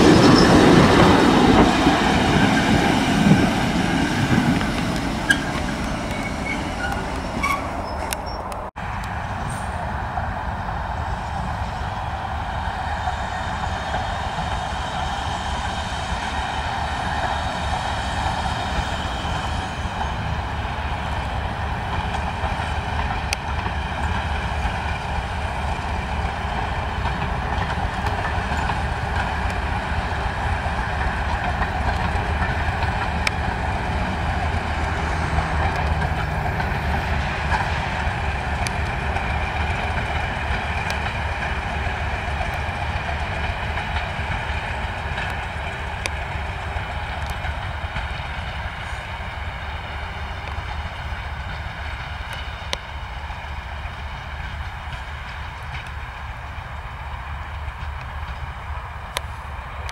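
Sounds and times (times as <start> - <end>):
train on the rails: 0.0 - 59.9.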